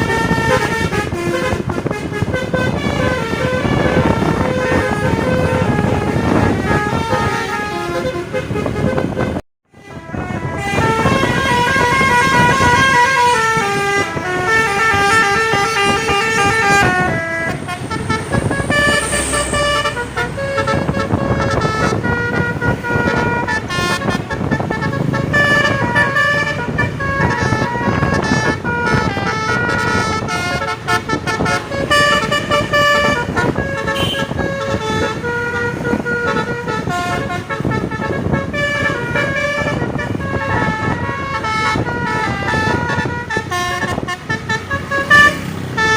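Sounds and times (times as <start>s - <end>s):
bus engine noise: 0.0s - 45.9s
multi-tone bus horn melody: 0.0s - 45.9s.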